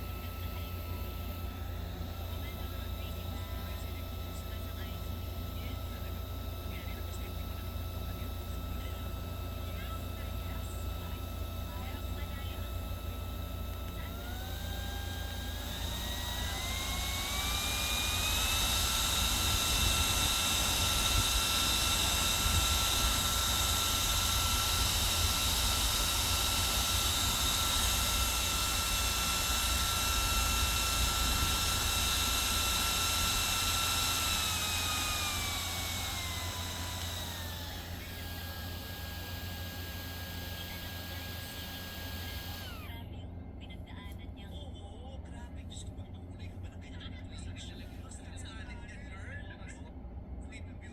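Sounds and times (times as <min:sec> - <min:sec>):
electric fan motor whine: 0:00.0 - 0:50.9.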